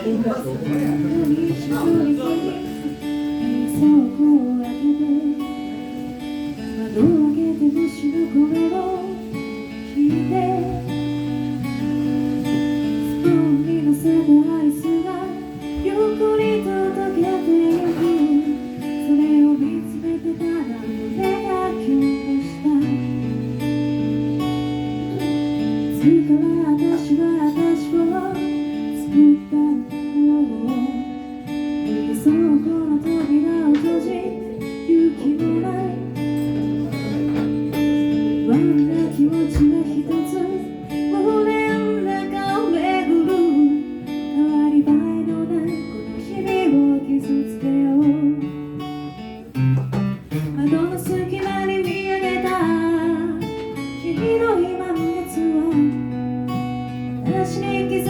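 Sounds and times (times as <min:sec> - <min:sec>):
acoustic guitar: 0:00.0 - 0:58.0.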